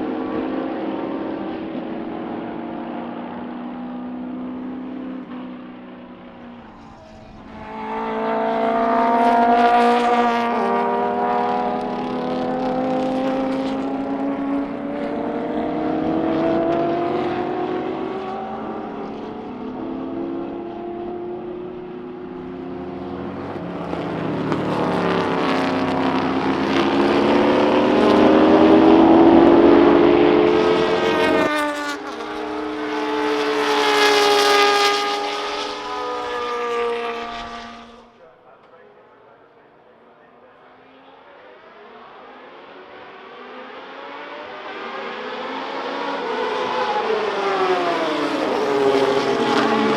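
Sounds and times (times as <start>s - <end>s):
racing car engines passing: 0.0s - 49.9s.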